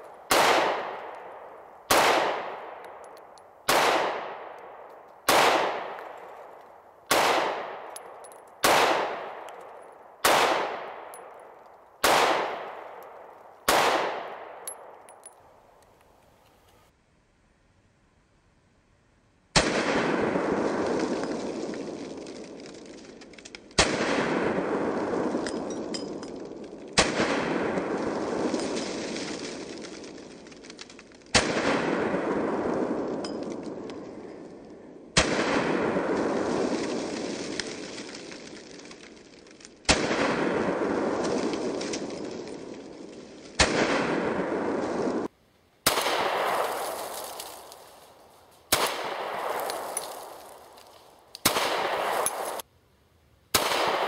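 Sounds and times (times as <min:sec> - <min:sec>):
slowed pistol shots: 0:00.0 - 0:15.4, 0:19.5 - 0:22.8, 0:23.7 - 0:30.2, 0:31.3 - 0:37.8, 0:39.8 - 0:47.8, 0:48.6 - 0:52.7, 0:53.5 - 0:54.0.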